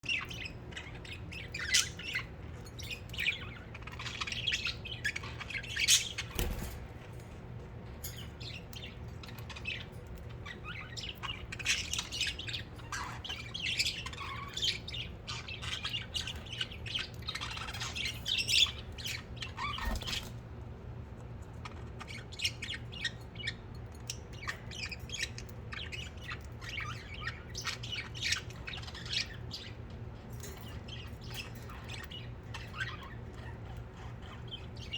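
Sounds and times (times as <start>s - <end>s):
budgerigars chattering and chirping: 0.0s - 6.7s, 8.0s - 20.4s, 21.6s - 34.9s.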